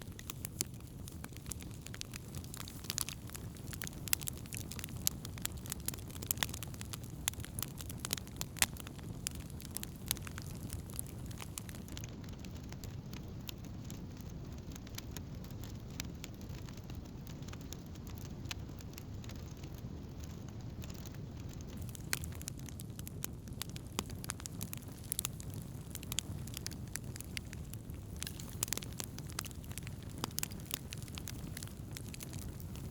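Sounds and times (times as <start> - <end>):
wood campfire crackling: 0.0 - 32.9.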